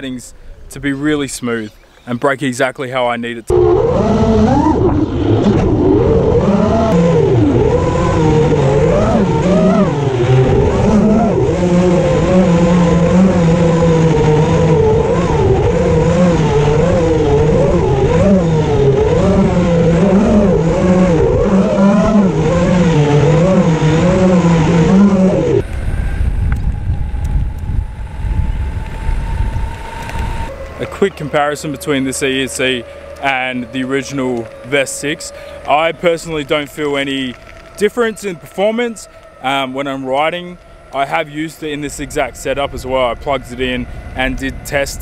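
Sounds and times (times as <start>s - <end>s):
electric motors whining: 3.5s - 45.0s
wind rumble on microphone: 3.5s - 45.0s.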